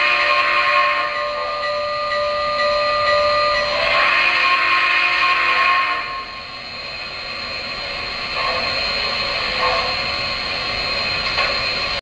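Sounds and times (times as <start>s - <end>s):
model steam locomotive hissing: 0.0s - 1.5s, 3.6s - 12.0s.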